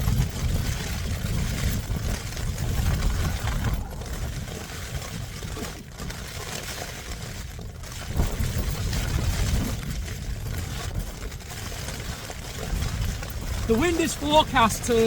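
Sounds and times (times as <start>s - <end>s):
rain on tent: 0.0s - 15.0s
wind gusting against tent: 0.0s - 15.0s.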